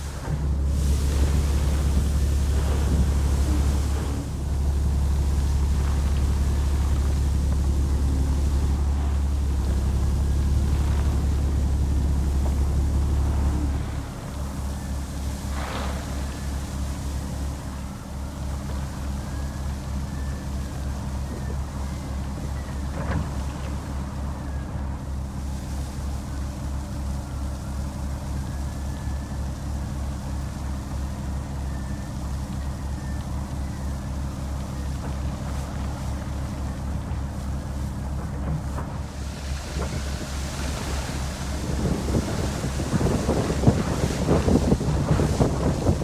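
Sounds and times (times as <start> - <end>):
diesel truck engine idling: 0.0 - 46.0.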